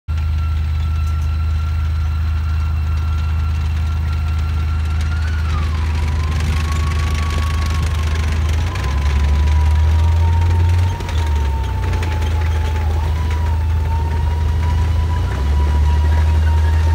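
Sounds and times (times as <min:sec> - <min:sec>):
high engine whine: 0:00.1 - 0:16.9
tank diesel engine running: 0:00.1 - 0:16.9.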